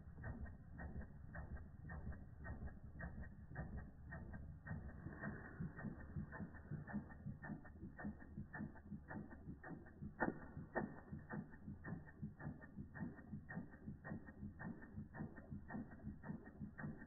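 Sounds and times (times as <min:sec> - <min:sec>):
toy steam engine clicking: 0:00.0 - 0:17.0.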